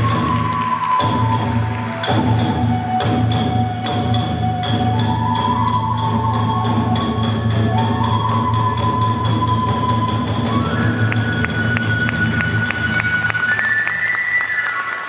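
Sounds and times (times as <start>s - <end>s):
bamboo flute long notes: 0.0s - 15.0s.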